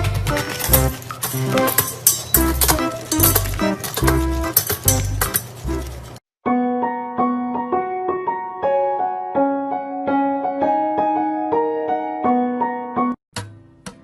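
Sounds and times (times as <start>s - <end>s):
keyboard melody: 0.0s - 13.2s.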